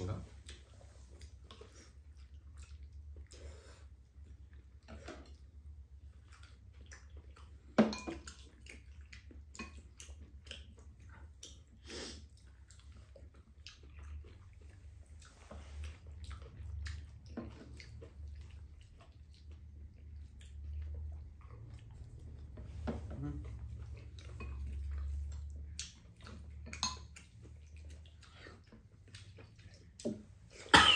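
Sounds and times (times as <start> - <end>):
chewing food: 0.0 - 30.8.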